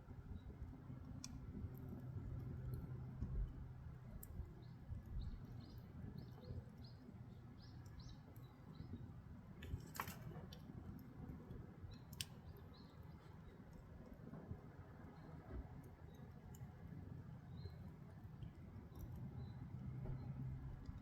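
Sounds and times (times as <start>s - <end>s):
fire crackling: 0.0s - 21.0s
low rumble of fire: 0.0s - 21.0s.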